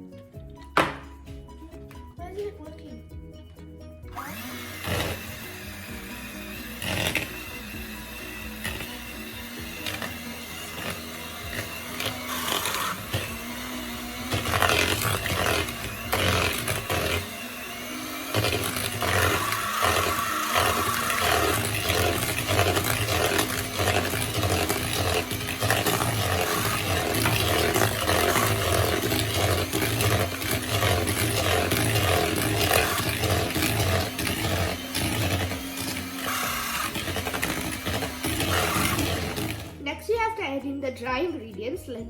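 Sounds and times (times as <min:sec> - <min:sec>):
electric mixer beating batter: 0:04.1 - 0:40.0.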